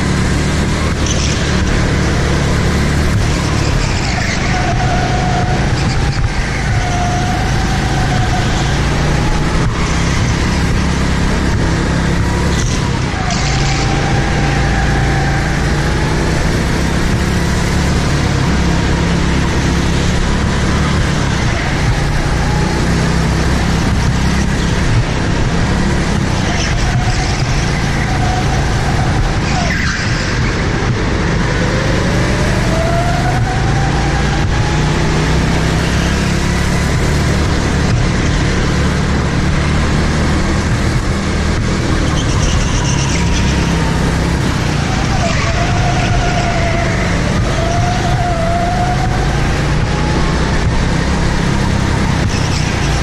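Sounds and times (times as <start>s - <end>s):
go-kart engine running: 0.0s - 53.0s.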